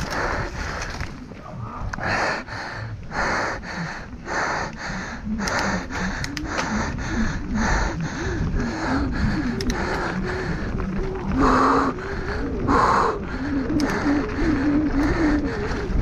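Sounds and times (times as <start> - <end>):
bike clicks and rattles: 0.0 - 2.2, 4.7 - 16.0
person breathing hard: 0.0 - 16.0.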